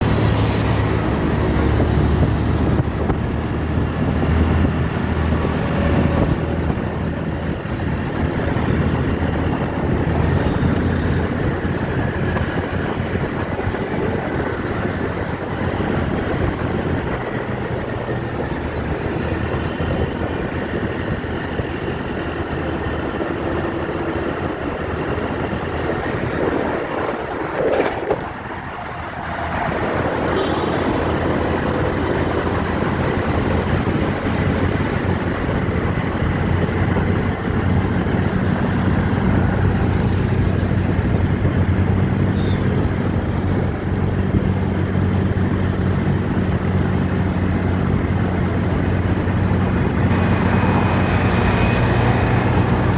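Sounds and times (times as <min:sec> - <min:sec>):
vehicle rumble: 0:00.0 - 0:52.9.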